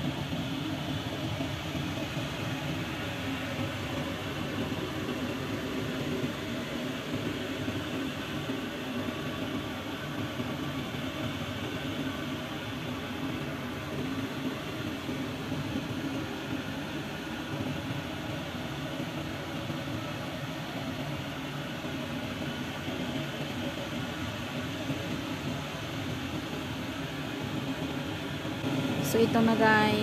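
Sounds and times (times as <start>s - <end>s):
steady mechanical whir: 0.0s - 30.0s.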